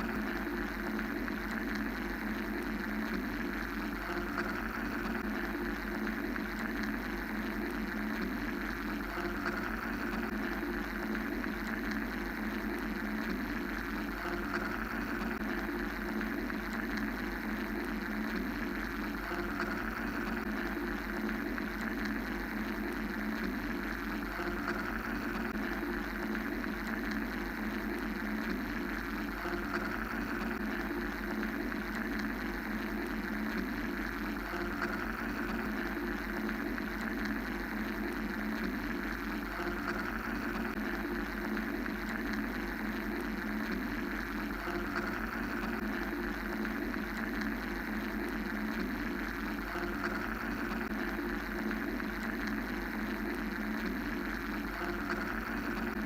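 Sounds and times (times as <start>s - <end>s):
mechanical white noise hum: 0.0s - 56.0s.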